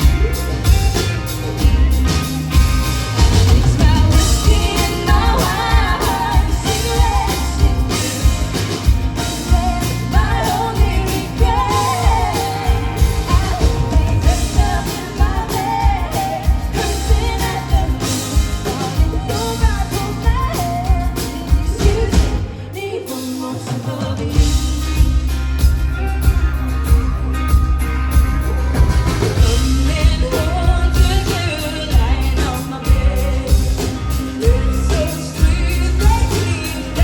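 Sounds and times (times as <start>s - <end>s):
drums: 0.0s - 37.0s
guitar: 0.0s - 37.0s
lead singer: 2.4s - 27.6s, 28.7s - 37.0s.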